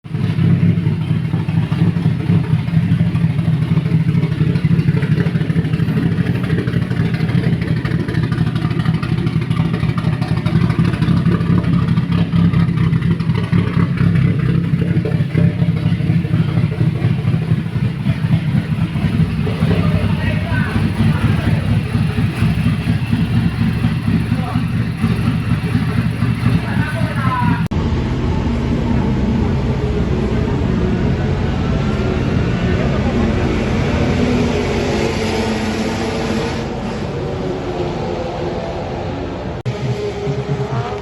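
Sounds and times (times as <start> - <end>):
turbocharged car engine running: 0.0 - 41.0.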